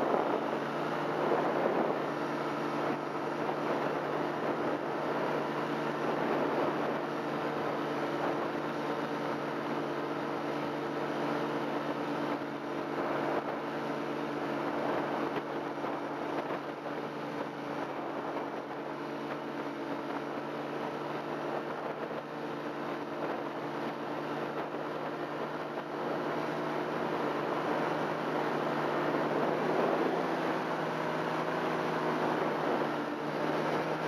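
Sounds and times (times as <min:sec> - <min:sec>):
paramotor engine and propeller: 0:00.0 - 0:34.0.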